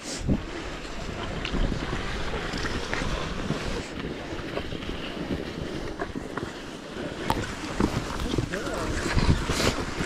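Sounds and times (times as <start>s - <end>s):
skis hissing over snow: 0.0s - 6.7s, 7.4s - 10.0s
wind buffeting microphone: 0.0s - 10.0s.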